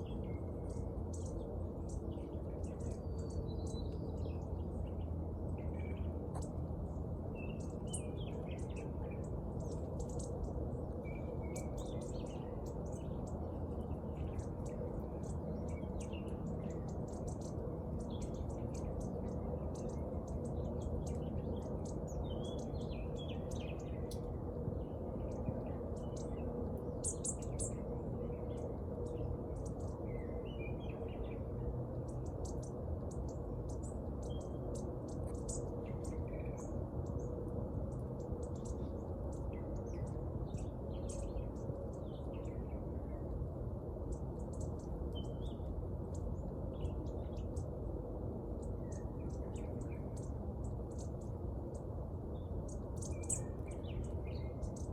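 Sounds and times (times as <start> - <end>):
low background rumble: 0.0 - 54.9
small birds chirping: 0.0 - 54.9.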